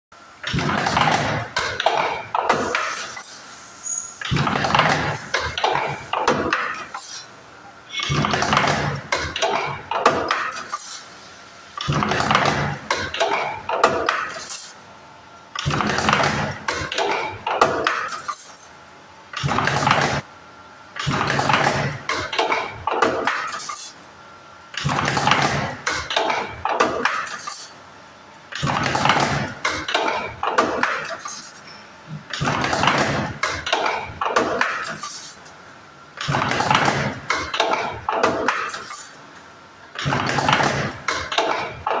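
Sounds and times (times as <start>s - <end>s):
machine metallic clattering: 0.4s - 7.3s, 7.9s - 14.8s, 15.6s - 20.2s, 21.0s - 24.0s, 24.8s - 27.8s, 28.5s - 35.5s, 36.2s - 42.0s.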